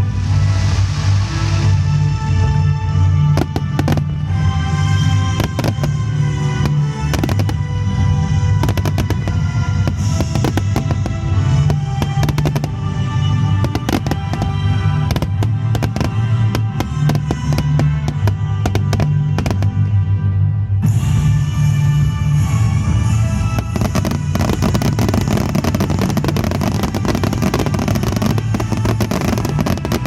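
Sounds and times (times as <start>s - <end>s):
loud music: 0.0s - 30.0s
fireworks bangs and crackles: 2.9s - 20.0s, 21.7s - 30.0s.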